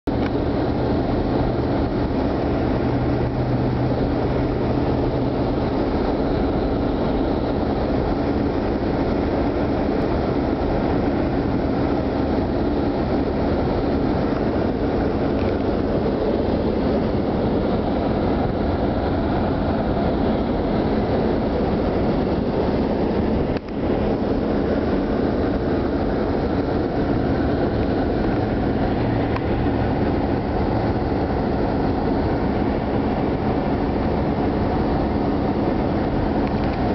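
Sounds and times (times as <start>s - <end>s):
car engine hum: 0.0s - 36.9s
road and wind noise: 0.0s - 36.9s.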